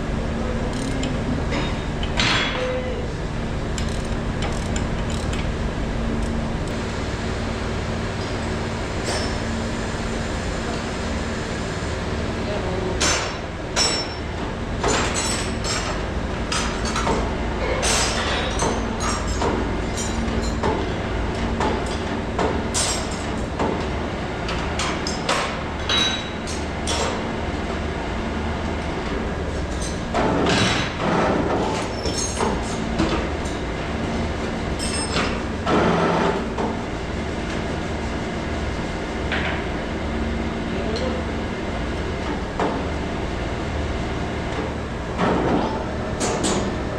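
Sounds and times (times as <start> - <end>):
low machinery hum: 0.0 - 46.9.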